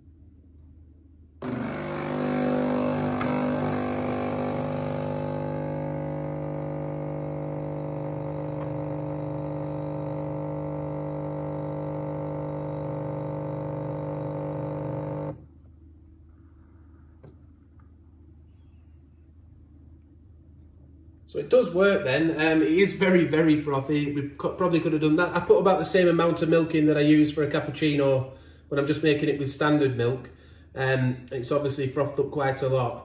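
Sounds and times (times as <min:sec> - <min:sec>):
coffee machine pump humming: 0:01.4 - 0:28.0.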